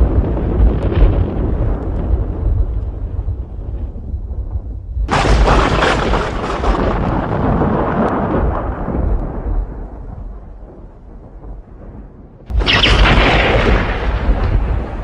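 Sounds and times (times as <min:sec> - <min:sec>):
loud thunderclap: 0:00.0 - 0:15.0
thunder rumbling: 0:00.0 - 0:15.0.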